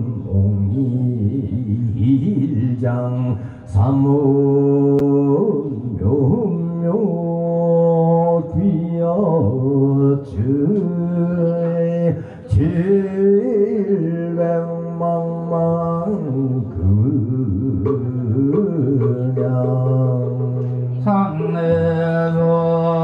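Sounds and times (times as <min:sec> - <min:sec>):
man chanting: 0:00.0 - 0:23.0.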